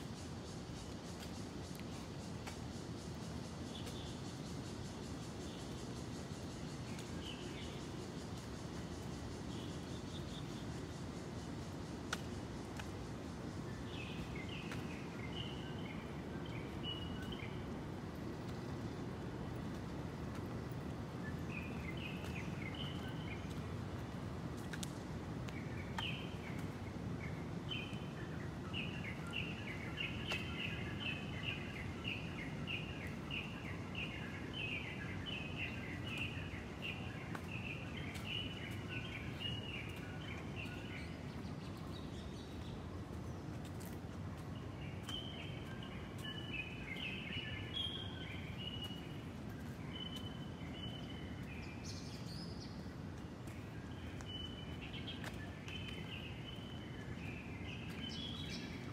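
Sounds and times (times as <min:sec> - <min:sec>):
low outdoor background noise: 0:00.0 - 0:58.9.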